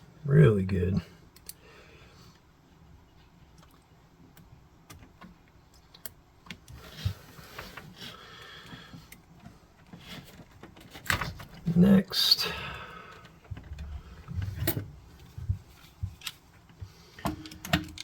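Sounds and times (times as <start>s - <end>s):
hands rustling wires: 2.3s - 18.0s.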